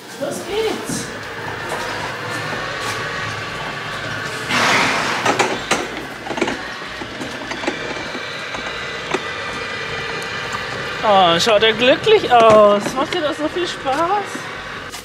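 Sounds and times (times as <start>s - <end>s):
cart wheels rattling on brick paving: 0.0s - 15.0s
rushing burst: 0.4s - 15.0s.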